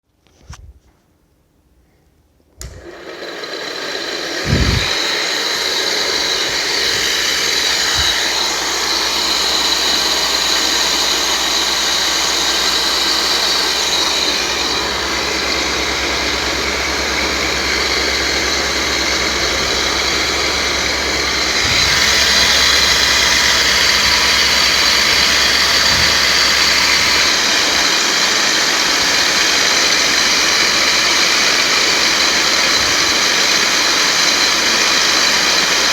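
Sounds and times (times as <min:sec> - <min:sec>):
model plane motor humming: 0:02.7 - 0:35.9.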